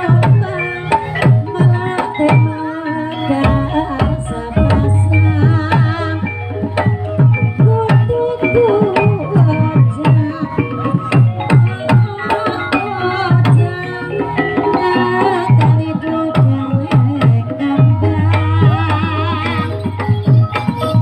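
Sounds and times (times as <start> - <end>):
ringing metallophones and gongs: 0.0 - 21.0.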